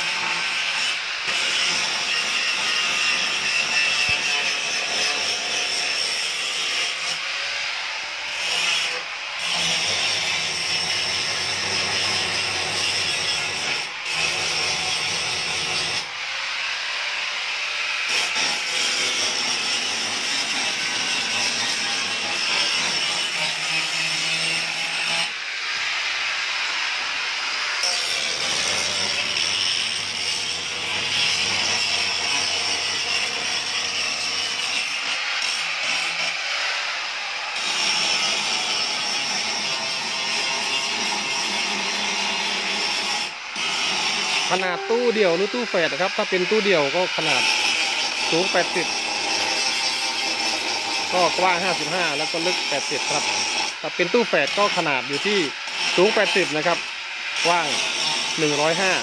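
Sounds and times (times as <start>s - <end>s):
woodworking power tool hissing: 0.0s - 59.0s.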